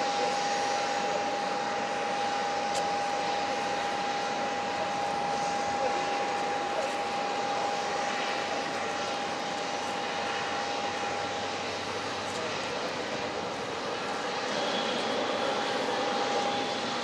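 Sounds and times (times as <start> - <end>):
airliner engines running: 0.0 - 17.0.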